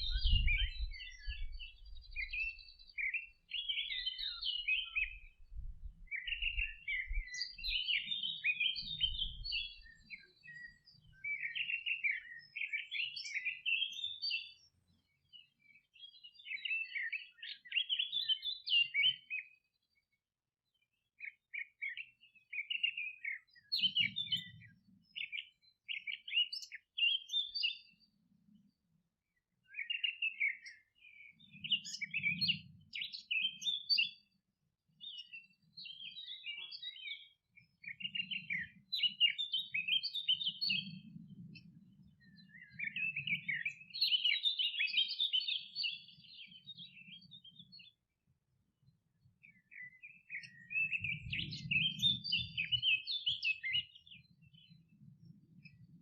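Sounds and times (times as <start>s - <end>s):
songbirds twittering: 0.0s - 56.0s.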